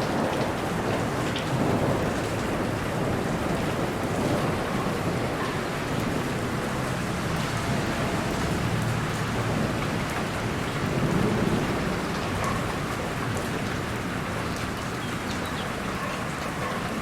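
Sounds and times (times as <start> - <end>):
distant thunder rolling: 0.0 - 15.9
dense rainfall: 0.0 - 17.0.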